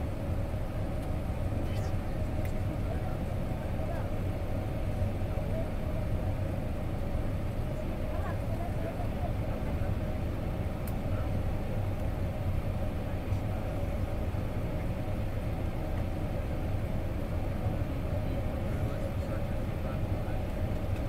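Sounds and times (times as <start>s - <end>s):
aircraft cabin engine roar: 0.0s - 21.0s.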